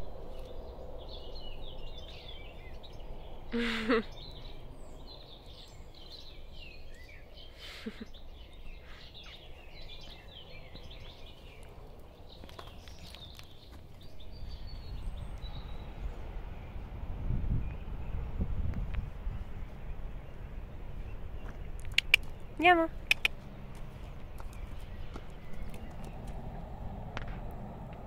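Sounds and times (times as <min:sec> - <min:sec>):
low rumble: 0:00.0 - 0:06.9, 0:09.5 - 0:28.0
birds chirping and singing: 0:00.0 - 0:26.9.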